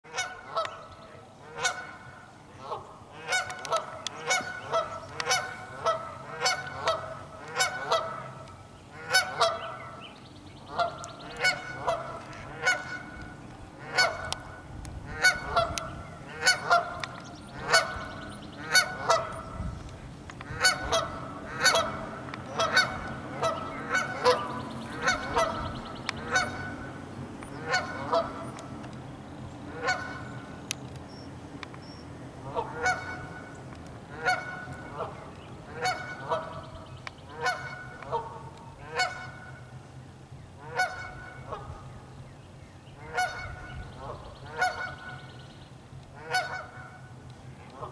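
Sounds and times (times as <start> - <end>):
geese honking: 0.1 - 28.9, 29.6 - 30.8, 32.4 - 39.8, 40.6 - 42.2, 43.0 - 47.9.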